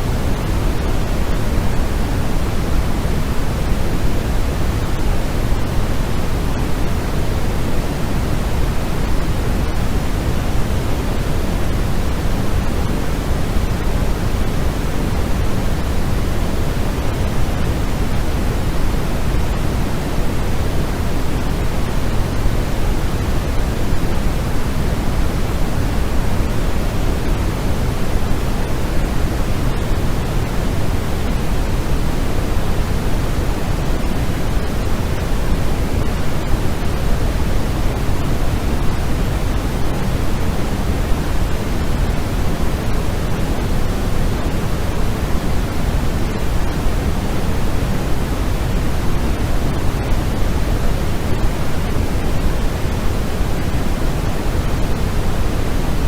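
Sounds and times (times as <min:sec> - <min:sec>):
steady electronic noise hiss: 0:00.0 - 0:56.0.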